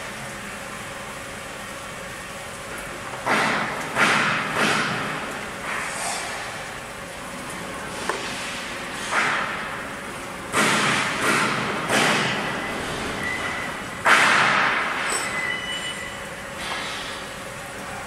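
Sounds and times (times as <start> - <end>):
steady machine noise: 3.1 - 18.0.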